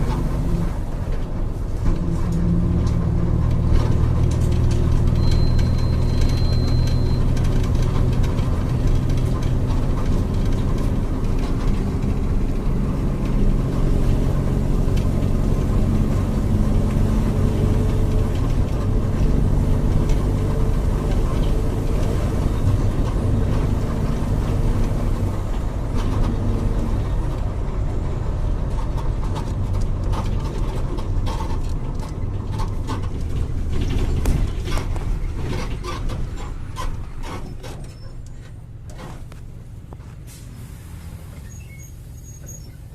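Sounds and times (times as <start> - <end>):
diesel bus engine running: 0.0 - 42.9.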